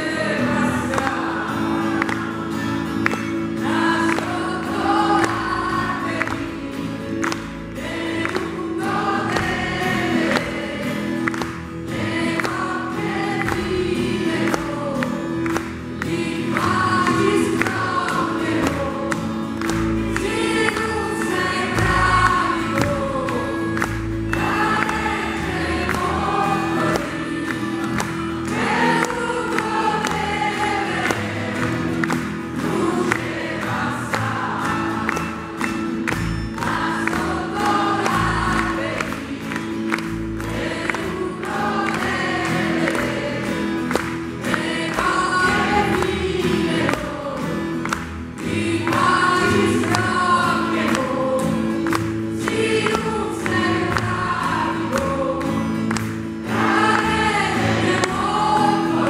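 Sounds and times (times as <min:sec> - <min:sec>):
acoustic guitar: 0:00.0 - 0:59.0
choir singing: 0:00.0 - 0:59.0
piano: 0:00.0 - 0:59.0.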